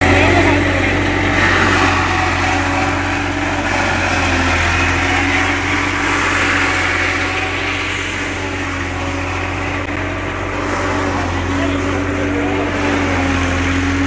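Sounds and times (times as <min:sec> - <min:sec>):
silage machine running: 0:00.0 - 0:14.0.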